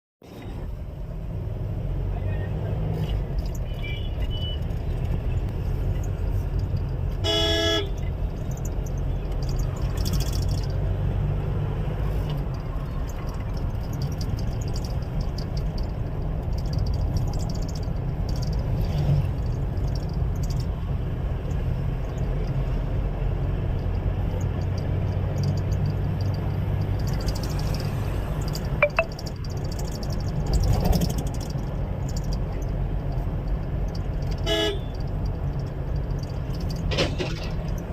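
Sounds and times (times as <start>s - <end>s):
vehicle rumbling: 0.2s - 37.9s.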